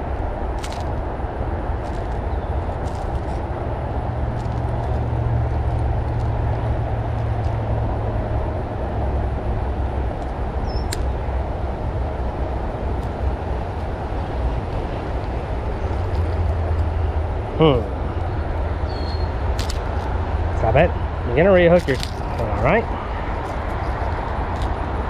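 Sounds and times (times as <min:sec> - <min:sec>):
highway traffic rush: 0:00.0 - 0:25.0
wind rumble on microphone: 0:00.0 - 0:25.0.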